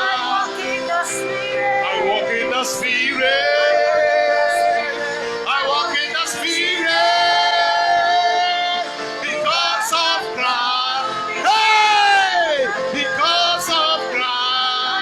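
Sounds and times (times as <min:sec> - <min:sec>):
men and women singing worship: 0:00.0 - 0:15.0.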